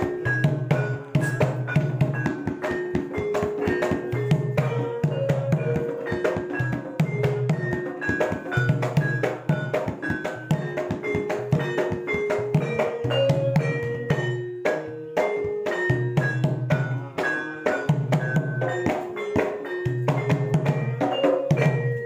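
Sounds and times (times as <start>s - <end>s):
drum strokes: 0.0s - 22.0s
gamelan metal keys ringing: 0.0s - 22.0s.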